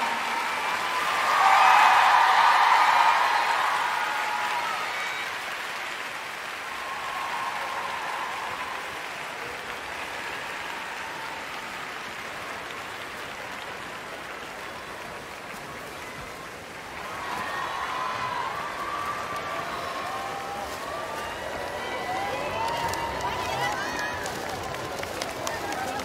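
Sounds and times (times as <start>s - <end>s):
crowd applauding: 0.0s - 26.0s.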